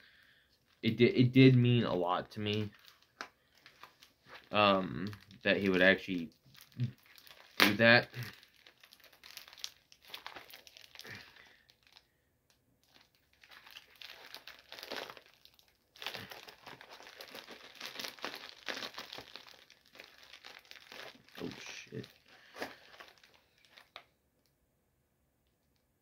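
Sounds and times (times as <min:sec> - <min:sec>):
plastic mailer crinkling: 0:02.4 - 0:12.0, 0:12.8 - 0:24.1.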